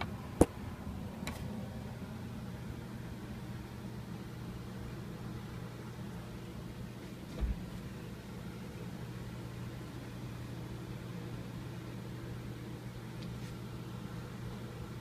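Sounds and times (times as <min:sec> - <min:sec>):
air conditioning unit humming: 0:00.0 - 0:15.0.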